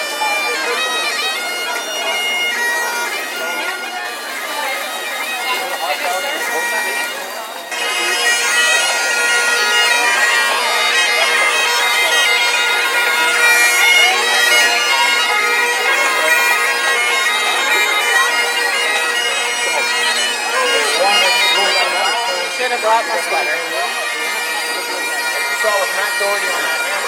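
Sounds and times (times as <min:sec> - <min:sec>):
bagpipes playing a tune: 0:00.0 - 0:27.0.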